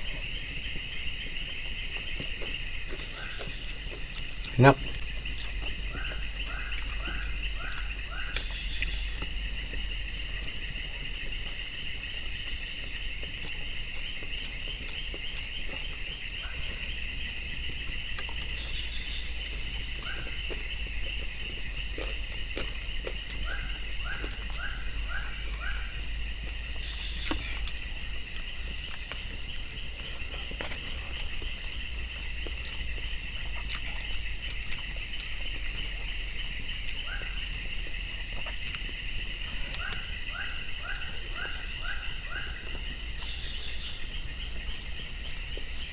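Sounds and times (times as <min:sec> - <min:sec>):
crickets and insects trilling: 0:00.0 - 0:45.9.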